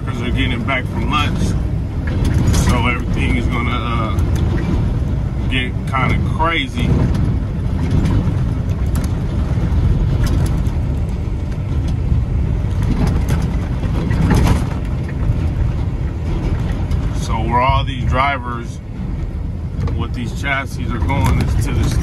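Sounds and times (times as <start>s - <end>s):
truck diesel engine droning: 0.0s - 22.0s.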